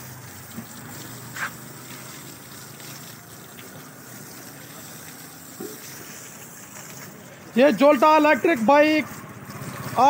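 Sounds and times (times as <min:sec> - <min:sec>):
water spraying hiss: 0:00.0 - 0:10.0.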